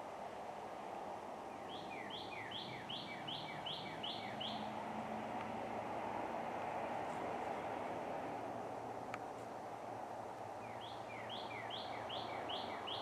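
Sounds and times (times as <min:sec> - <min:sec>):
songbird singing: 0:00.0 - 0:13.0
steady background hiss: 0:00.0 - 0:13.0.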